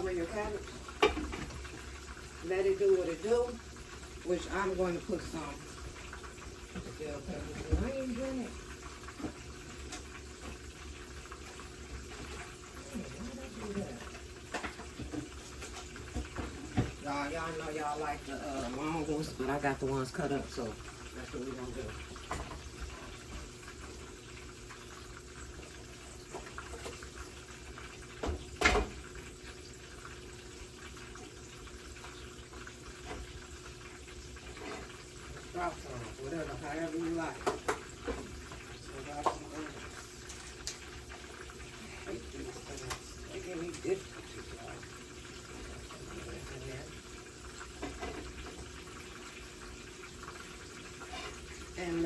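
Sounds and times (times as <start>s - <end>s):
faint watery noise: 0.0s - 52.0s.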